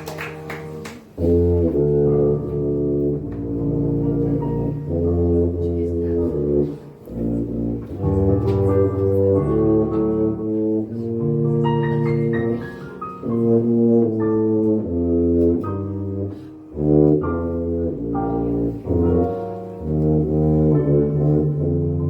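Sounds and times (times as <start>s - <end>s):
tuba playing: 0.4s - 22.0s.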